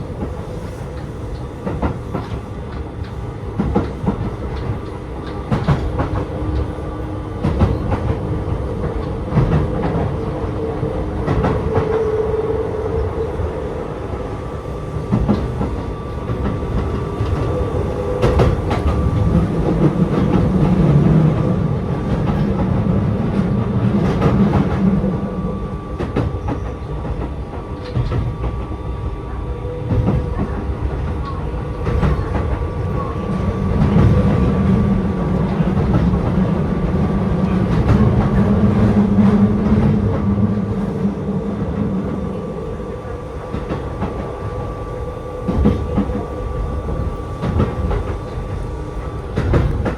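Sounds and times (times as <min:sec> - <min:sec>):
electric train rumbling: 0:00.0 - 0:49.9.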